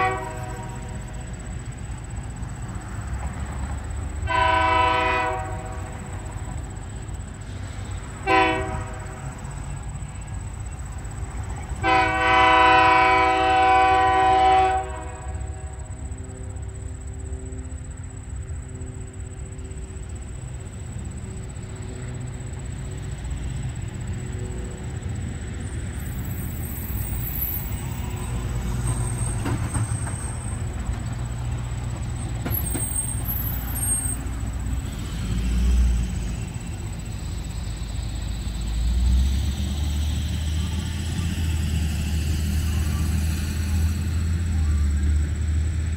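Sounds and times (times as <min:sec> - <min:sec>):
freight train rumble: 0:00.0 - 0:45.9
train cars whooshing past: 0:00.0 - 0:45.9.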